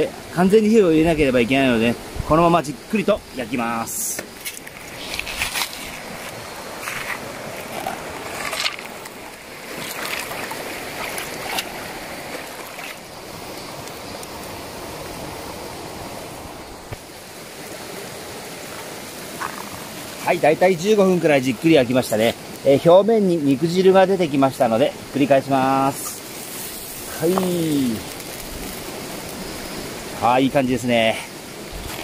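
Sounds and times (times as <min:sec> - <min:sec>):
mountain stream rushing: 0:00.0 - 0:32.0
campfire crackling and popping: 0:02.9 - 0:32.0.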